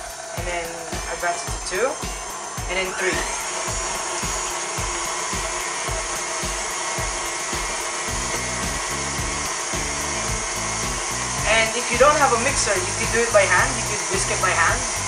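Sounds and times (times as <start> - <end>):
background music with low beat: 0.0 - 15.0
beater creaming butter in bowl: 0.0 - 15.0
stand mixer motor whirring: 0.0 - 15.0.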